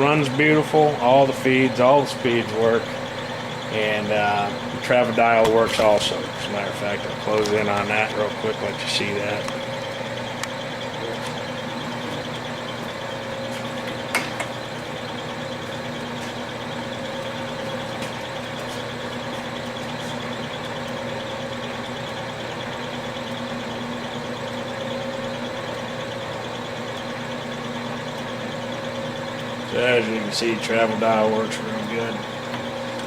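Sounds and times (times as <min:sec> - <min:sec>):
lathe humming and whining: 0:00.0 - 0:33.0.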